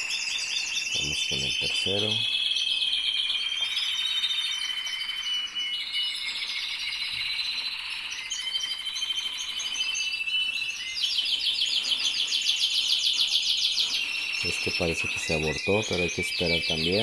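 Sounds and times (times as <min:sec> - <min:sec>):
canaries singing: 0:00.0 - 0:17.0.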